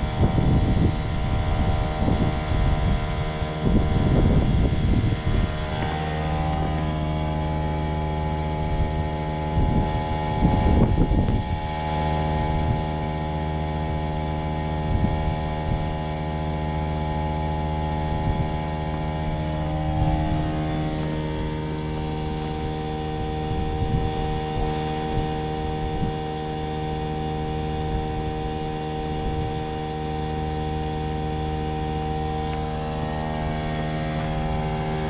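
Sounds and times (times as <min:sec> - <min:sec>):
heat pump humming: 0:00.0 - 0:35.0
wind buffeting microphone: 0:00.0 - 0:35.0.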